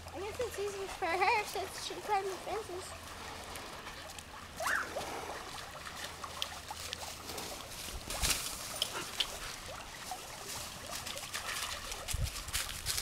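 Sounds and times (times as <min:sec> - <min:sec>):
creek trickling: 0:00.0 - 0:13.0.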